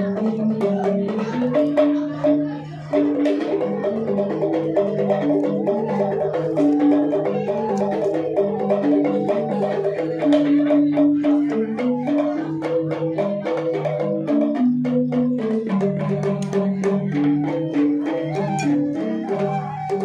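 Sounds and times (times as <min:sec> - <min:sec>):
bamboo flutes melody: 0:00.0 - 0:20.0
bamboo xylophones: 0:00.0 - 0:20.0.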